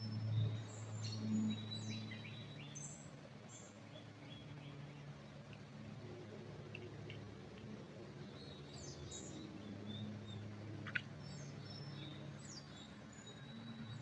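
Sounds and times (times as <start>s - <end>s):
songbirds chirping faintly: 0.0s - 14.0s.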